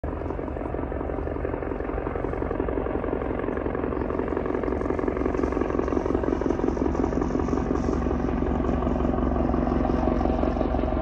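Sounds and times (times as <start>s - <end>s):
helicopter rotor beat: 0.0s - 11.0s.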